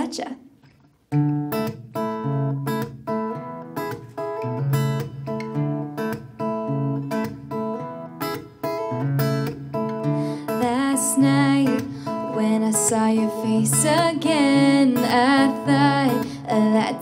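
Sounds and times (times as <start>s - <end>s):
acoustic guitar strumming: 0.6s - 17.0s.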